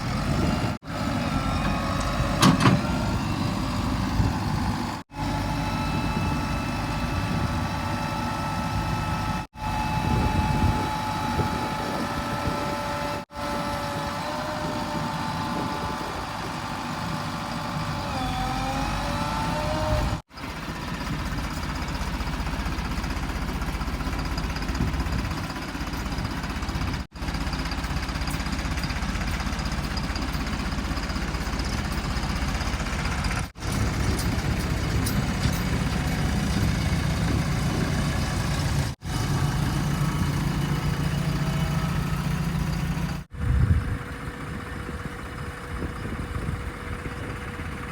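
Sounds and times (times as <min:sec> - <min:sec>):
diesel engines running: 0:00.0 - 0:47.9.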